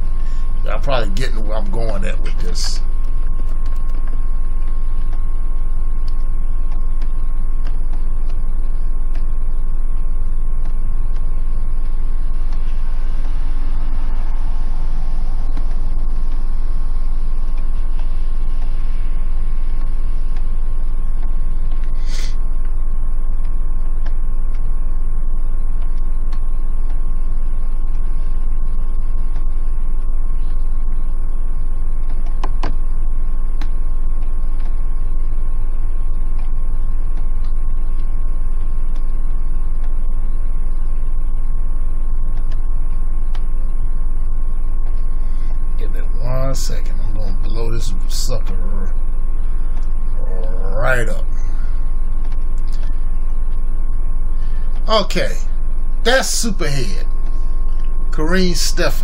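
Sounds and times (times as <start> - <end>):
low rumble and electrical hum: 0.0 - 59.0.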